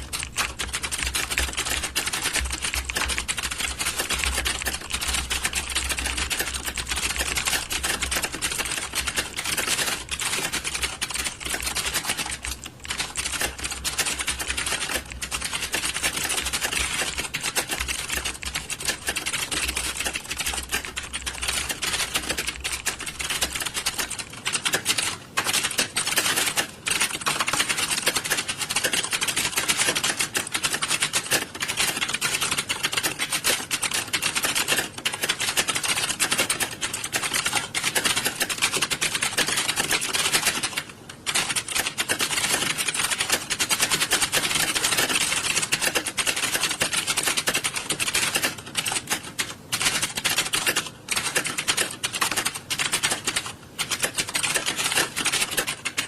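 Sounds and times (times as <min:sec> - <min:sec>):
many keyboards typing: 0:00.0 - 0:56.0.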